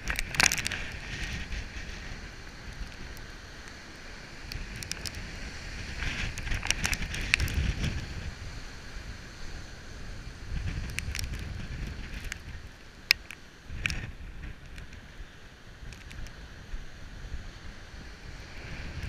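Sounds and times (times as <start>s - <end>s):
surf breaking on rocky shore: 0.0s - 19.0s
wind buffeting microphone: 0.0s - 19.0s.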